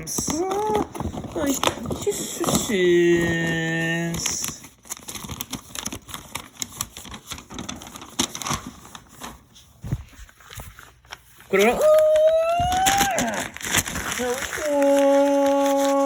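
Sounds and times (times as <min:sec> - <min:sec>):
toy packaging crinkling: 0:00.0 - 0:09.4, 0:10.4 - 0:16.0.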